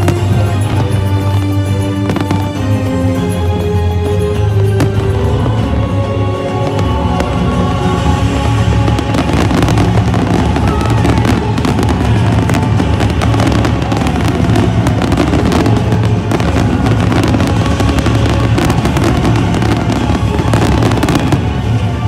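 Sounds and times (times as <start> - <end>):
fireworks bursting and crackling: 0.0 - 22.0
loud music: 0.0 - 22.0.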